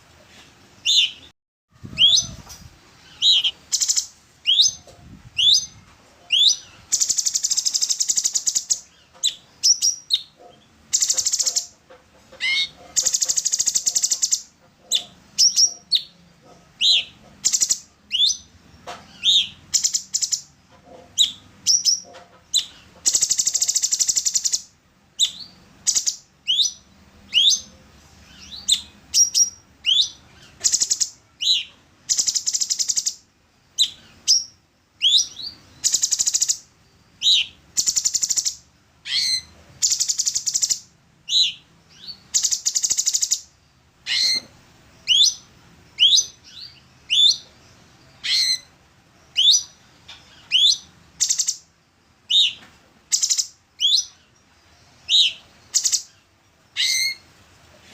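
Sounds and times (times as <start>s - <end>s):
bird singing: 0.8s - 57.4s.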